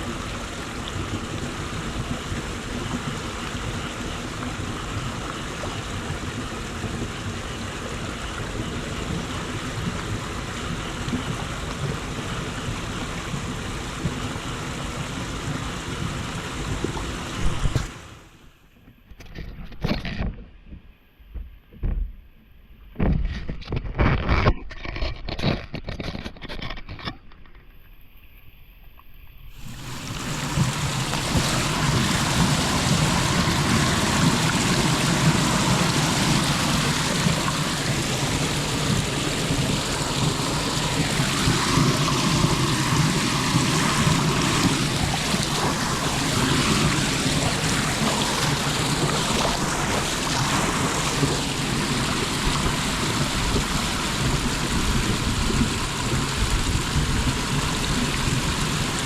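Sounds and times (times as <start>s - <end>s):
water rushing into a drain: 0.0s - 18.4s, 29.3s - 59.0s.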